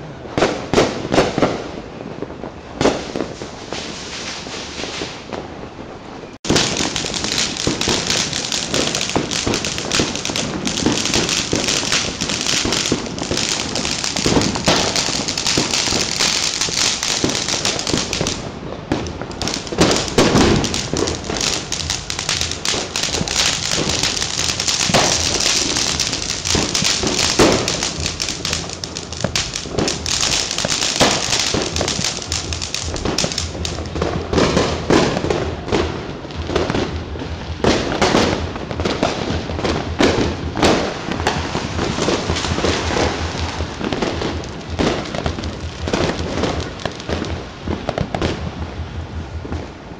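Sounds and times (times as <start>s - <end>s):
fireworks crackling and banging: 0.0s - 49.9s.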